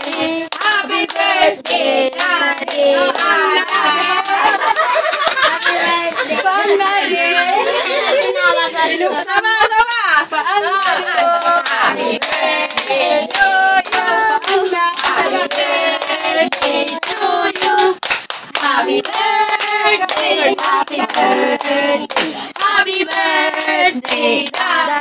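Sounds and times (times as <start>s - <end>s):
hands clapping: 0.0s - 6.3s, 10.8s - 25.0s
children singing together: 0.0s - 9.3s, 10.3s - 18.0s, 18.6s - 25.0s.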